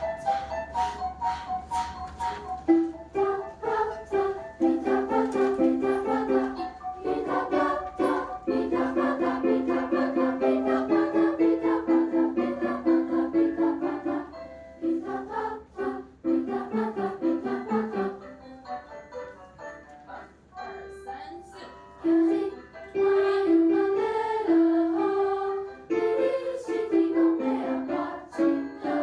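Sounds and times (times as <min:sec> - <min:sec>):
piano accompaniment: 0:00.0 - 0:29.0.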